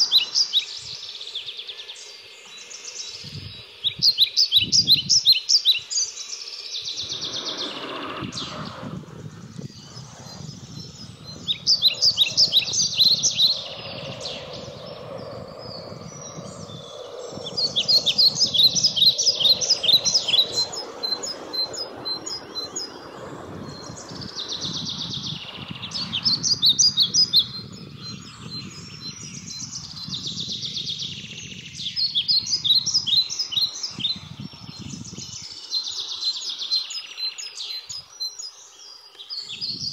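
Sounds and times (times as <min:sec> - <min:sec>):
songbird singing rapid phrase: 0:00.0 - 0:01.8, 0:02.5 - 0:39.9.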